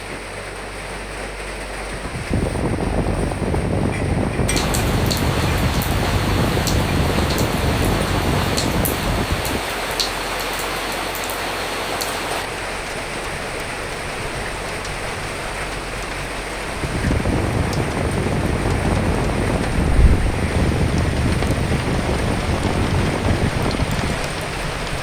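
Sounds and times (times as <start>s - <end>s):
rain pattering: 0.0s - 25.0s
wind: 0.0s - 25.0s
low rumble: 1.8s - 24.0s.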